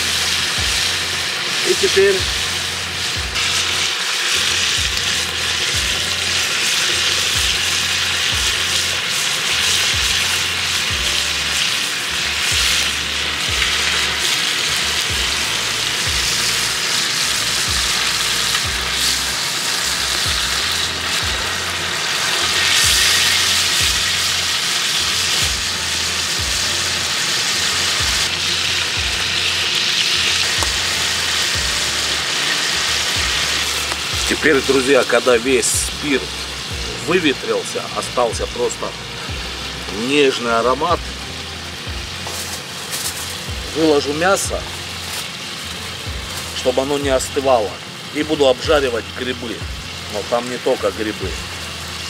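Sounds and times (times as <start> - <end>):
chicken sizzling in a pan: 0.0 - 52.0.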